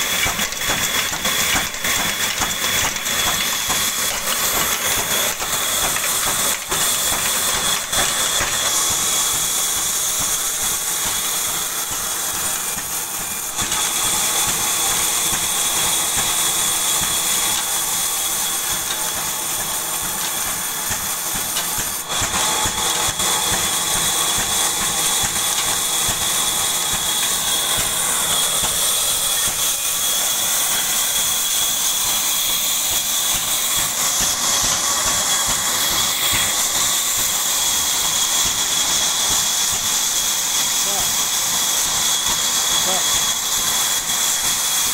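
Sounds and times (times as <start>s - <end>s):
band saw cutting wood: 0.0s - 44.9s.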